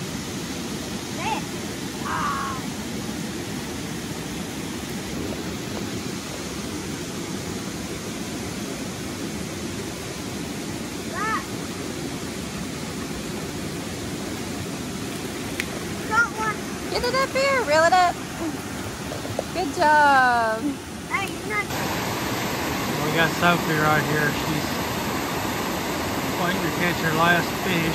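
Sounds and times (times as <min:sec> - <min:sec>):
stream rushing over rocks: 0:00.0 - 0:27.9.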